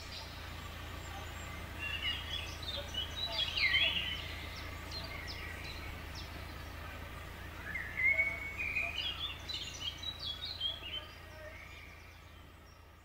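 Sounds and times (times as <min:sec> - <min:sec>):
small birds singing: 0:00.0 - 0:13.0
steady low hum: 0:00.0 - 0:13.0.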